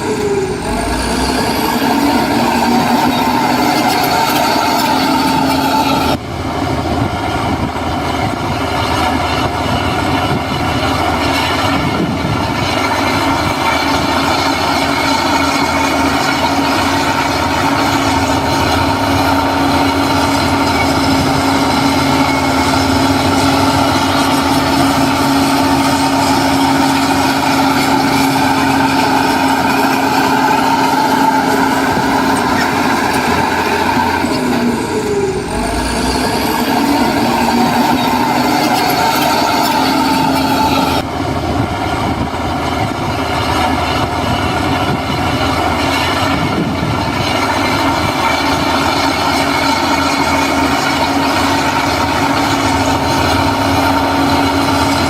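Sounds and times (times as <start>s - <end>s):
diesel construction machinery running: 0.0s - 55.0s.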